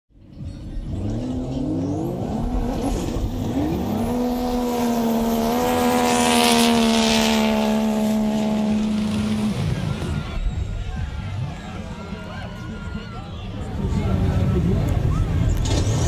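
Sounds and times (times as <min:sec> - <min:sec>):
jet ski engines racing: 0:00.3 - 0:16.0.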